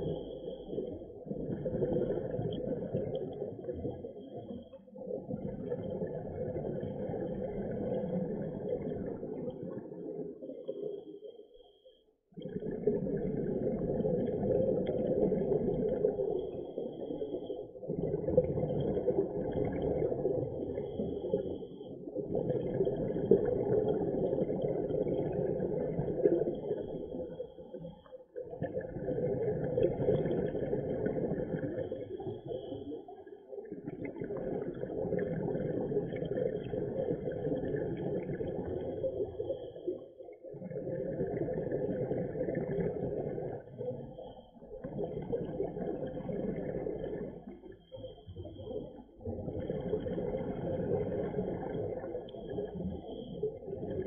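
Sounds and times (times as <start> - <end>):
underwater regulator breathing and bubbles: 0.0 - 54.0.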